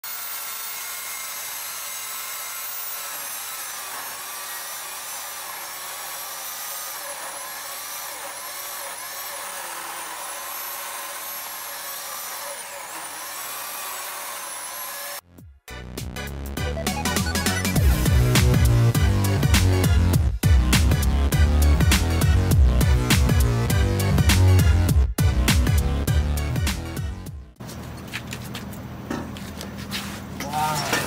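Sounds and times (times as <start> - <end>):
electric chainsaw cutting log: 0.0 - 15.2, 17.0 - 27.0.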